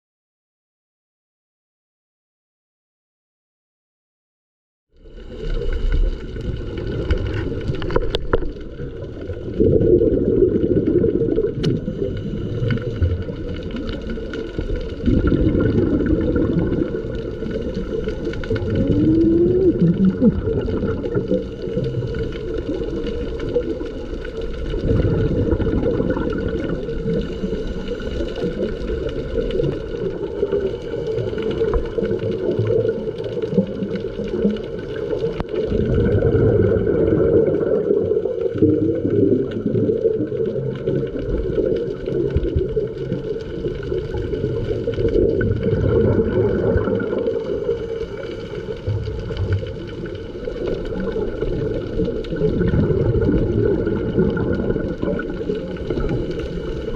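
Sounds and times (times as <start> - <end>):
steady underwater hum: 4.9 - 56.9
underwater rumbling and gurgling: 4.9 - 56.9.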